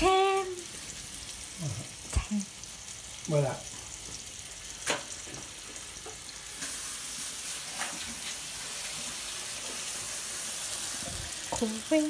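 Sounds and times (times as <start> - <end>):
steaks sizzling in a frying pan: 0.0 - 12.0
water running from sink tap: 0.0 - 12.0.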